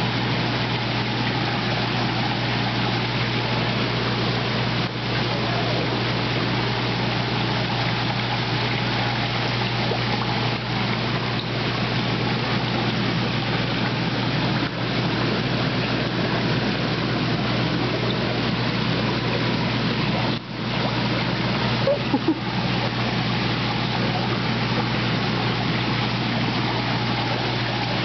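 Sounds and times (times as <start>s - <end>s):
low constant hum: 0.0s - 28.0s
muffled underwater water rush: 0.0s - 28.0s.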